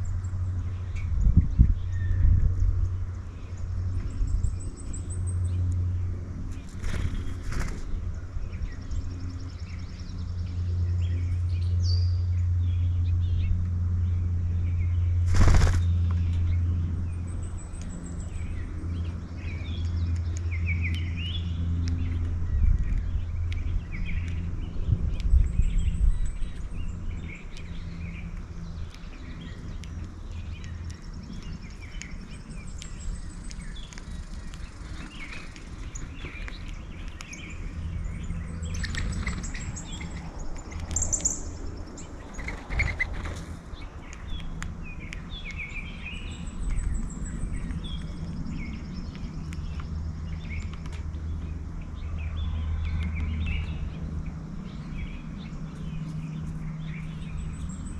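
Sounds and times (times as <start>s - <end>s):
songbirds chirping: 0.0s - 57.9s
steady low hum: 0.0s - 57.9s.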